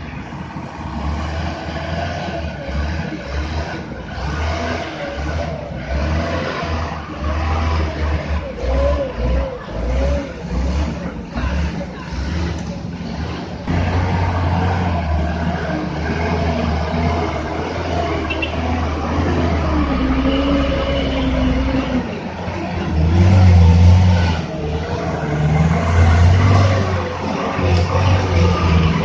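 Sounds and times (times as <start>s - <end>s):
truck diesel engine labouring: 0.0s - 29.0s.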